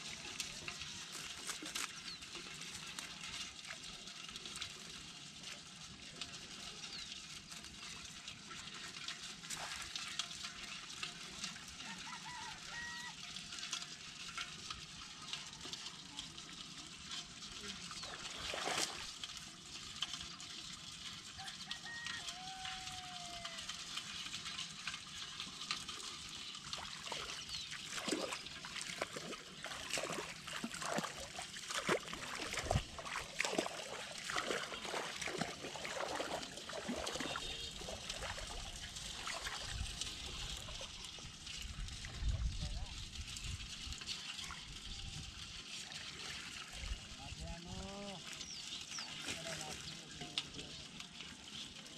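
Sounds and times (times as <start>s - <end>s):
river water trickling: 0.0s - 51.9s
small splashes and drips: 0.0s - 51.9s.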